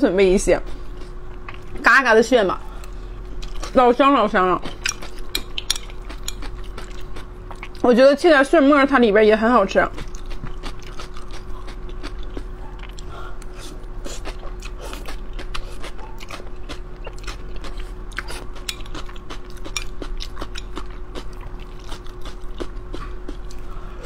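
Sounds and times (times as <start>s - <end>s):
crunchy chewing: 0.8s - 1.8s, 2.6s - 3.8s, 4.6s - 7.8s, 9.9s - 24.0s.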